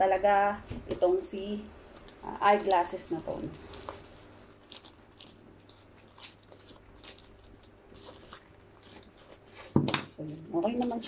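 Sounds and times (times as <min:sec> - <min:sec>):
plastic crinkling: 0:01.8 - 0:11.0.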